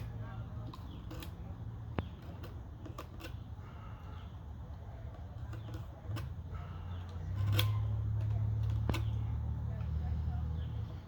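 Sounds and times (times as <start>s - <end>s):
knife blade shaving wood: 0.0s - 9.3s.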